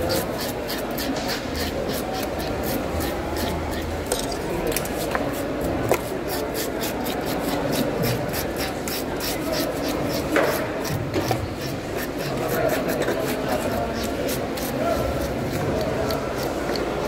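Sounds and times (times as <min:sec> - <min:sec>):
fish scaler scraping scales: 0:00.0 - 0:17.0.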